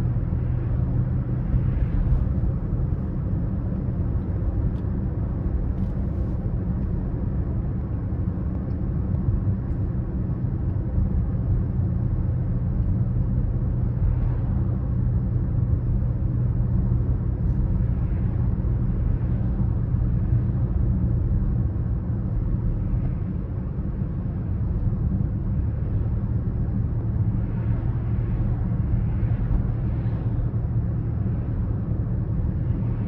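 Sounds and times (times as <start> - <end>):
diesel car engine cruising: 0.0 - 33.0
road noise: 0.0 - 33.0.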